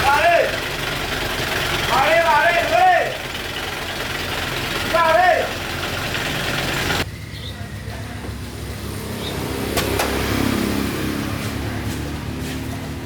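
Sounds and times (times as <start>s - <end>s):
loud noise cutting off: 0.0s - 12.6s
truck engine rumbling: 0.0s - 13.0s.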